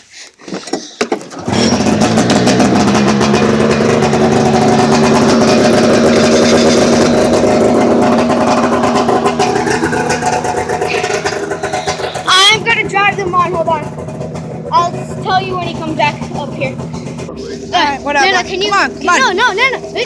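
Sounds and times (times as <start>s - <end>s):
snowmobile engine running: 1.4s - 20.0s.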